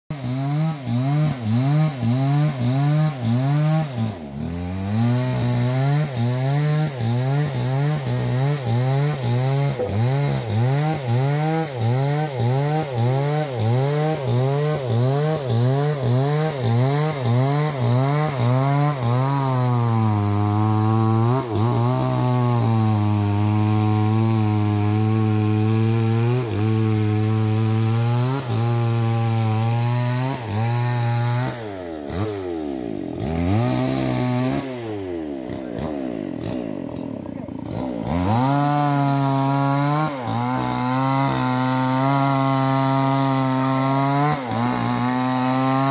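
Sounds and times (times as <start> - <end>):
small engine running: 0.1 - 45.9.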